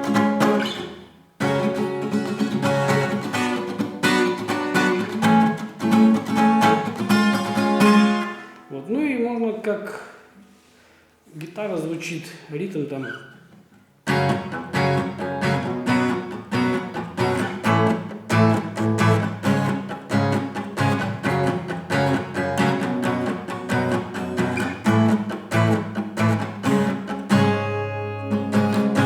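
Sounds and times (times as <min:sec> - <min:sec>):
acoustic guitar strumming: 0:00.0 - 0:08.8, 0:13.0 - 0:29.0.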